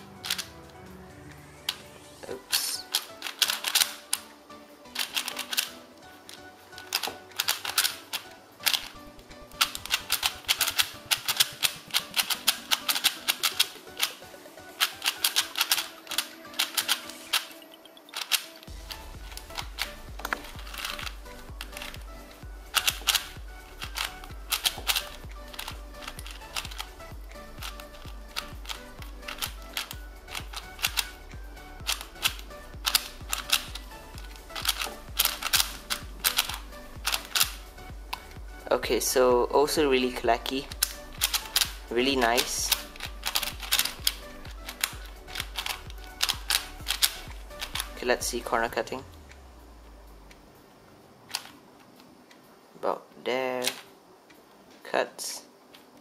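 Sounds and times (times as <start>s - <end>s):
plastic puzzle cube clicking: 0.0s - 0.7s, 2.5s - 22.1s, 22.7s - 38.4s, 40.4s - 49.4s, 51.2s - 52.4s, 53.6s - 53.9s
background music: 0.0s - 56.0s.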